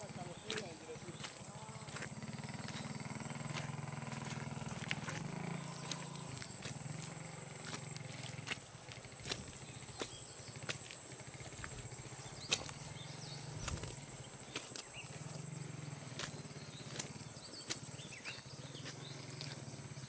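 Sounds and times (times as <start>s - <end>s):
footsteps on muddy track: 0.0s - 20.0s.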